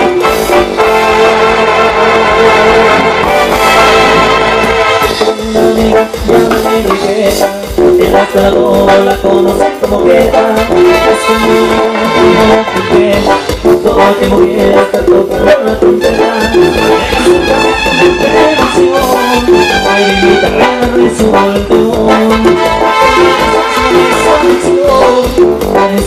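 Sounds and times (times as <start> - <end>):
keyboards: 0.0 - 26.0
live band playing dance music: 0.0 - 26.0
electronic drums: 5.0 - 26.0.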